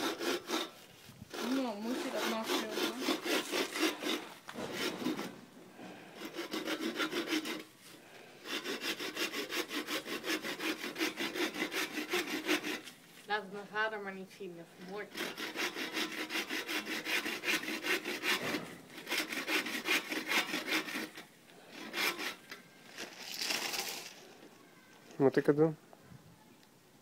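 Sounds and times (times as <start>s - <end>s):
hand saw cutting wood: 0.0s - 13.3s, 14.8s - 24.1s.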